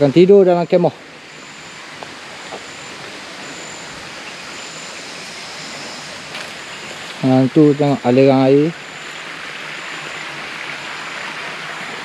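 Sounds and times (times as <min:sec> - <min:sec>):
forest stream rushing: 0:00.0 - 0:12.0.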